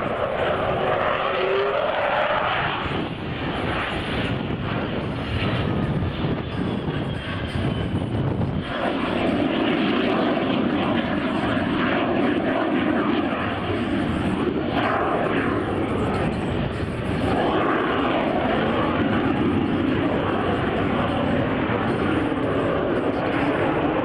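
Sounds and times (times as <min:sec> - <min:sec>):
airplane engine noise: 0:00.0 - 0:24.0.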